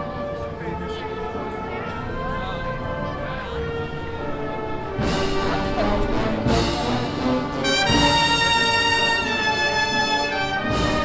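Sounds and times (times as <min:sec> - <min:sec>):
slow solemn brass music: 0:00.0 - 0:11.0.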